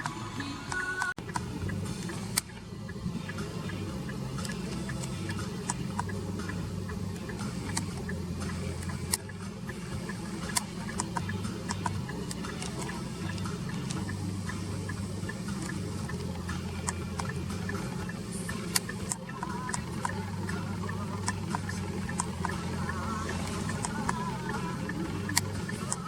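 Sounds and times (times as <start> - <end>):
car engine idling: 0.0 - 26.0
short clicks and ticks: 0.0 - 26.0.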